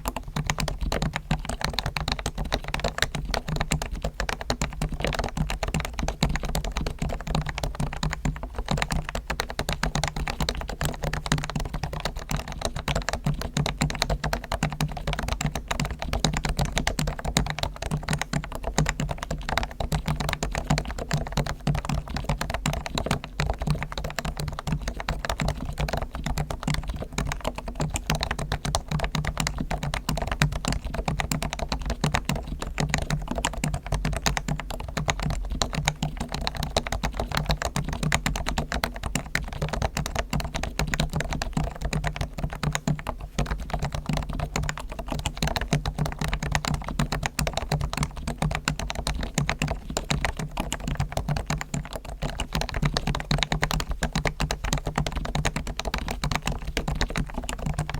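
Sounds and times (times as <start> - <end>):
fast typing on keyboard: 0.0 - 57.9.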